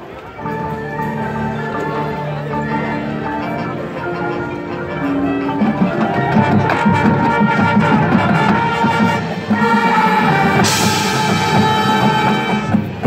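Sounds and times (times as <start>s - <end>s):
brass and woodwinds chords: 0.3s - 13.0s
front-ensemble percussion: 0.4s - 13.0s.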